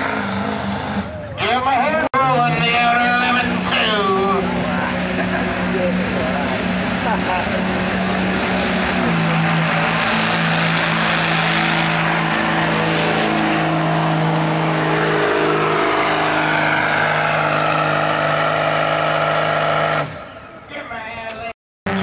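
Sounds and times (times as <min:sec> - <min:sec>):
truck engine revving under load: 0:00.0 - 0:01.4, 0:02.1 - 0:20.7.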